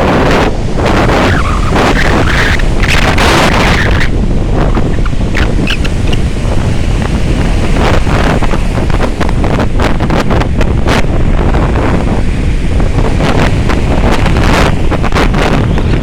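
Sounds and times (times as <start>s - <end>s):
waves breaking and splashing: 0.0s - 16.0s
wind buffeting microphone: 0.0s - 16.0s.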